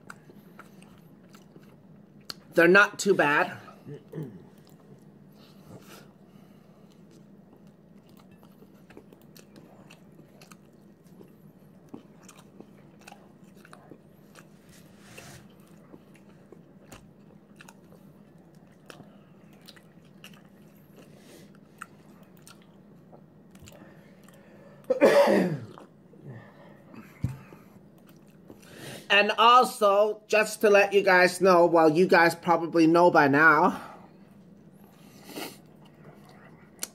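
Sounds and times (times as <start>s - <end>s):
low room hum: 0.0s - 36.9s.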